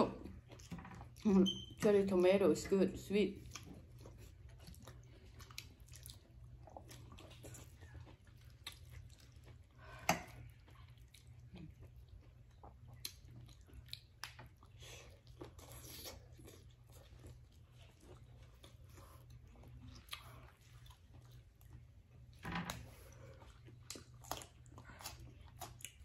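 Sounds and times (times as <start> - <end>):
people chewing: 3.4 - 26.0.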